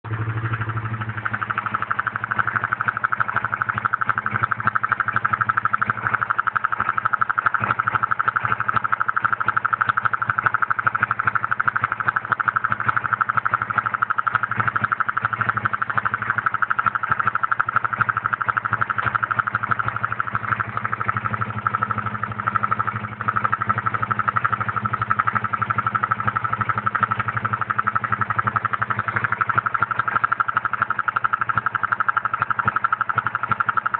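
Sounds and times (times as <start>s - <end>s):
fast steady ticking chatter: 0.0s - 33.9s
motorcycle engine idling: 0.0s - 33.9s.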